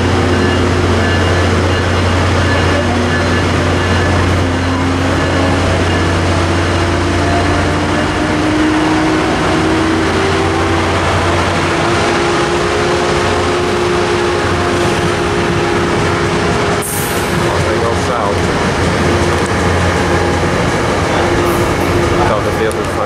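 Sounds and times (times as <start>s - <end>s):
diesel locomotive engine: 0.0s - 23.0s
train coaches rolling past: 0.0s - 23.0s.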